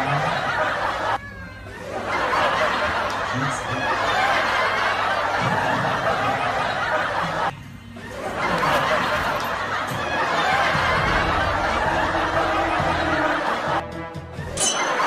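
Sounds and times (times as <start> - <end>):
crowd laughing: 0.0 - 15.0.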